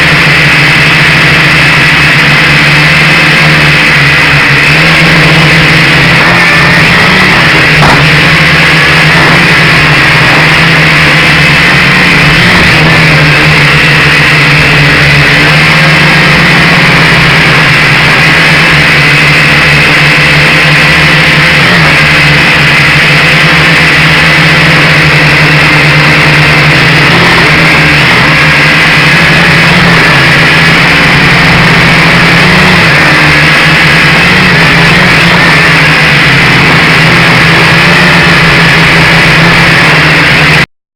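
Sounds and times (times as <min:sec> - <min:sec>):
drone propellers whirring: 0:00.0 - 0:40.7.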